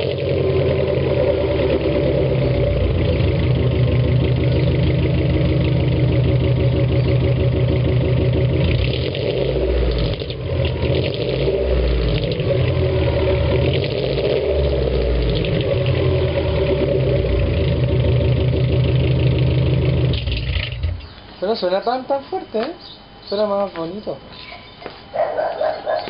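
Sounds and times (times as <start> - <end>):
boxer engine idling: 0.0 - 21.2.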